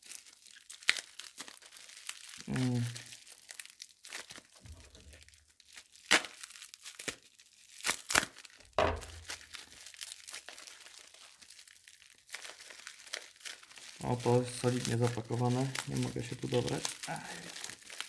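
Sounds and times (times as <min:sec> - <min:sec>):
bubble wrap crinkling: 0:00.0 - 0:18.0
bubble wrap snaps: 0:00.0 - 0:18.0
knife cutting bubble wrap: 0:00.0 - 0:18.0.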